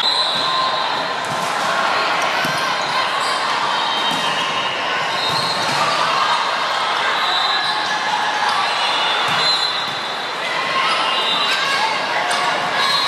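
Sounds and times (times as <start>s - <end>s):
voices of players and spectators: 0.0s - 13.0s.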